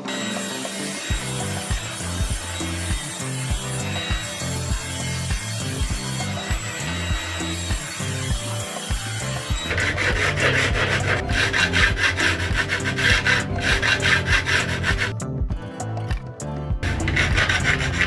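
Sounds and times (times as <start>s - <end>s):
hand file rasping: 0.0s - 15.2s, 16.8s - 18.0s
background music: 0.0s - 18.0s.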